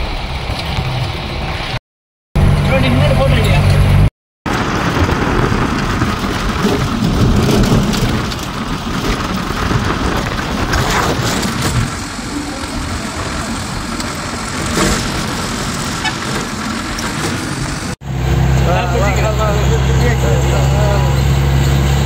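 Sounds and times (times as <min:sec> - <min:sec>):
road and wind noise: 0:00.0 - 0:01.8, 0:02.4 - 0:22.0.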